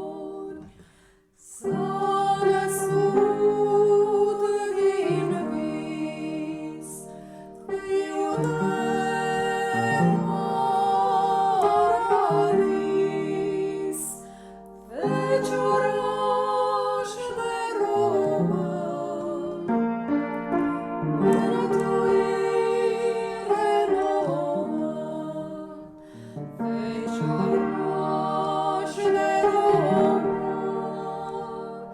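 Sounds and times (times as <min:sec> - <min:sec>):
person singing a carol: 0:00.0 - 0:31.9
keyboard accompaniment: 0:01.7 - 0:31.9.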